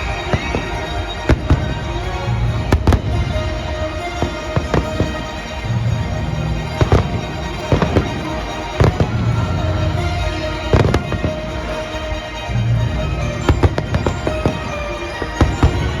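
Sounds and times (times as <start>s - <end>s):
fireworks bangs and crackles: 0.0s - 9.8s, 10.6s - 16.0s
music playing: 0.0s - 16.0s.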